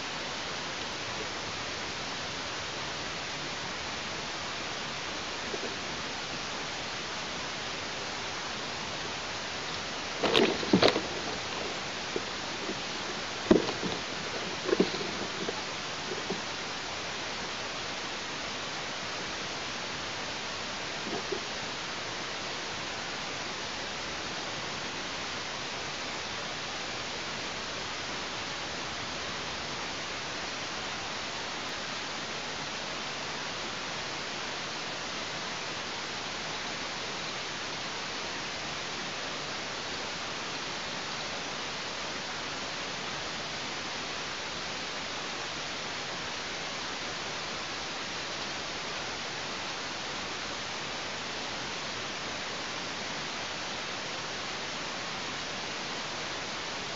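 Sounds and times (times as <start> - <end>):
steady hiss: 0.0 - 56.9.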